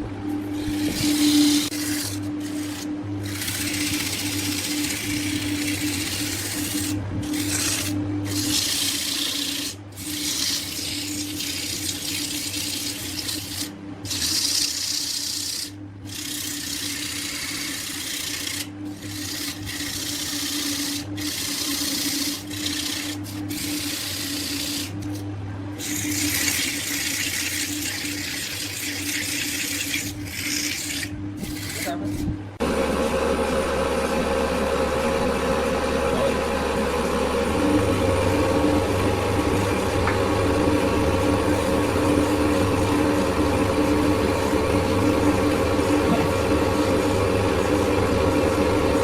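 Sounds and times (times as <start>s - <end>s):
wood lathe motor humming: 0.0s - 25.2s, 25.8s - 49.0s
tool scraping spinning wood: 0.0s - 49.0s.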